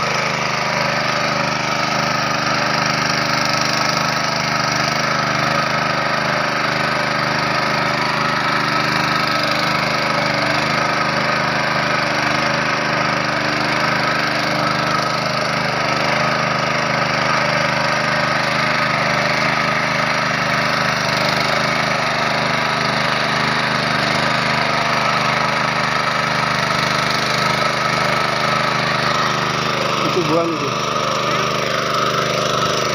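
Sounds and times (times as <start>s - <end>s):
engine running steadily: 0.0s - 32.9s.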